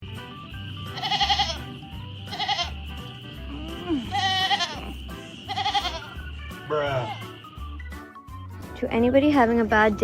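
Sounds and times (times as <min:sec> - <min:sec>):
background music with steady bass: 0:00.0 - 0:10.0.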